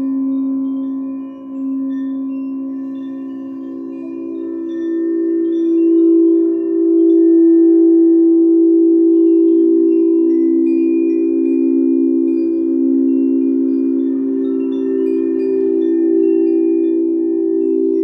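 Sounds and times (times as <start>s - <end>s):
high ringing overtones: 0.0s - 18.0s
singing bowls low chord: 0.0s - 18.0s.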